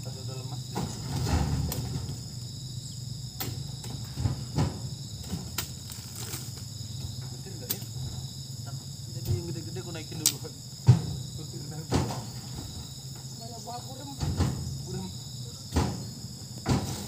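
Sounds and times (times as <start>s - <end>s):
insects chirring: 0.0s - 17.0s
fruit bunches knocking on wooden truck bed: 0.6s - 2.4s, 3.4s - 17.0s.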